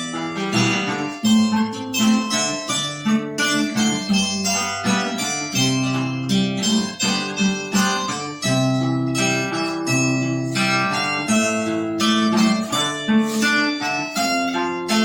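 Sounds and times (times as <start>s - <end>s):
acoustic guitar: 0.0s - 15.0s
harp-zither plucked notes: 0.0s - 15.0s.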